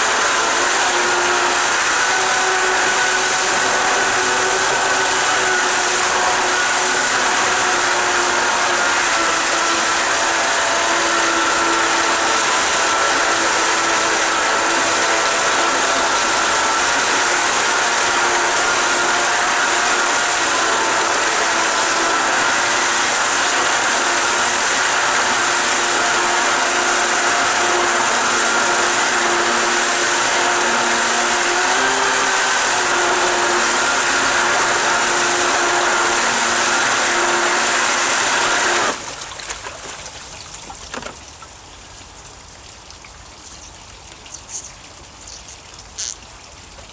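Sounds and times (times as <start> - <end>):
electric motor whine: 0.0 - 39.0
water churning from pump: 0.0 - 46.9.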